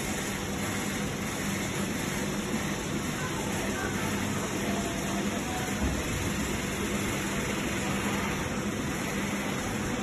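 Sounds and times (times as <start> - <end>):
bed motors humming: 0.0 - 10.0.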